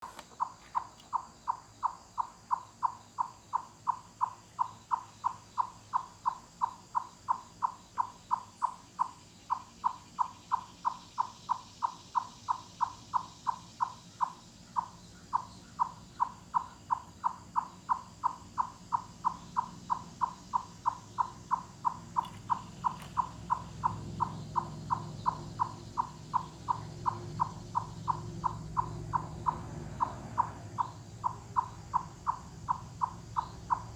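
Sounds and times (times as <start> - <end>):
chipmunk clucking call: 0.0 - 33.9.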